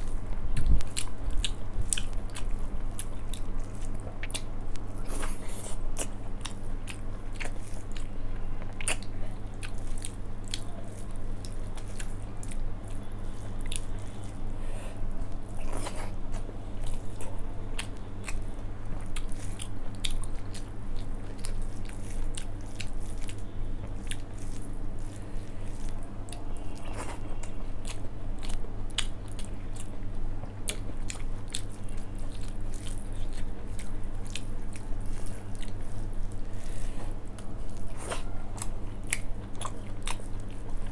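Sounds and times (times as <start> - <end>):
chewing and wet mouth sounds: 0.0 - 40.9
steady low hum: 0.0 - 40.9.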